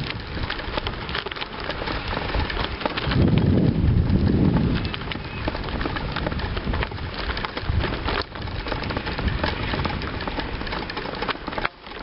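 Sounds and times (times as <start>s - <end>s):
bicycle clicks and rattles: 0.0s - 12.0s
bicycle tyres crunching on gravel: 0.0s - 12.0s.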